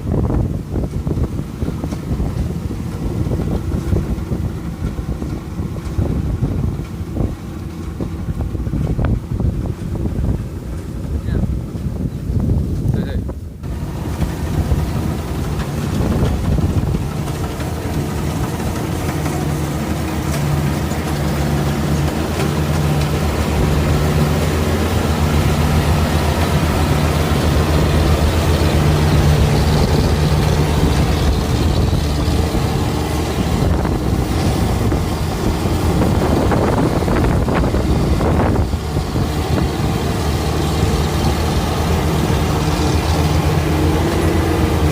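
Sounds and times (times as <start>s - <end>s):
combine harvester engine running: 0.0s - 44.9s.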